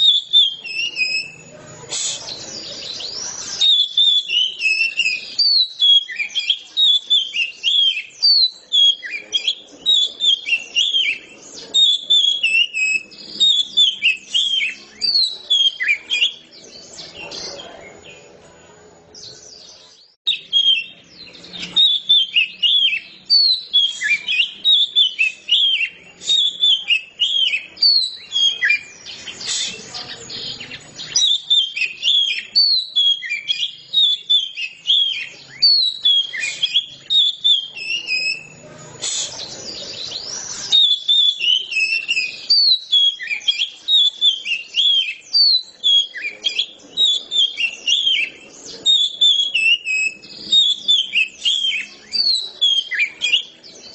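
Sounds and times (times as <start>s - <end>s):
bird singing: 0.0s - 53.9s.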